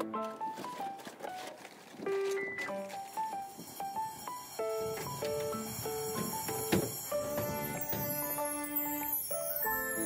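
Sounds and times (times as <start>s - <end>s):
light instrumental music: 0.0s - 10.0s.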